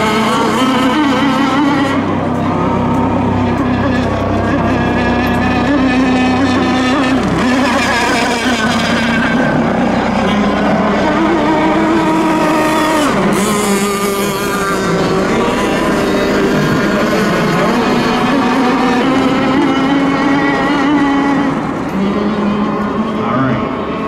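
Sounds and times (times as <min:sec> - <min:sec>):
model boat motors racing: 0:00.0 - 0:24.0.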